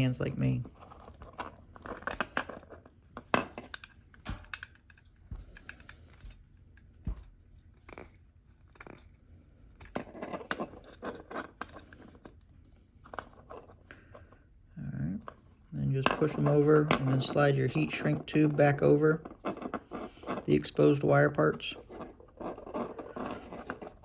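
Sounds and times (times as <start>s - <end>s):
wires twisting rustling: 0.0s - 24.0s.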